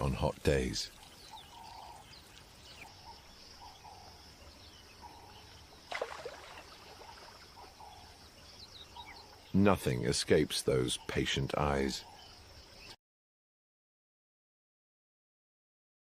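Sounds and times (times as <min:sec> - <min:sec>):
insect hum: 0:00.0 - 0:13.0.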